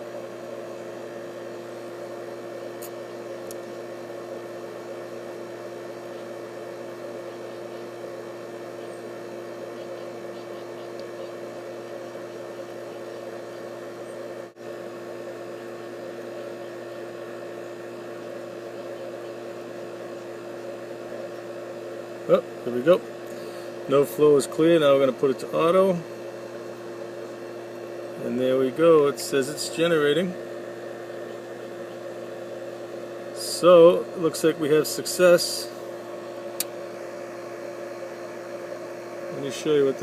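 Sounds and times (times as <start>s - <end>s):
pool pump motor humming: 0.0s - 40.0s.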